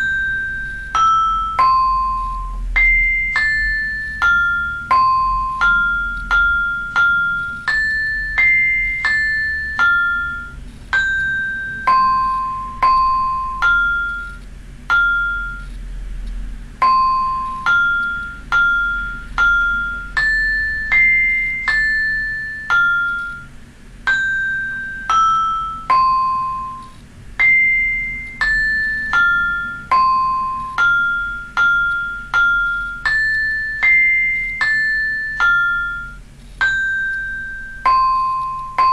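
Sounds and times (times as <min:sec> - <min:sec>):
synthesized vibraphone melody: 0:00.0 - 0:15.8, 0:16.8 - 0:38.9.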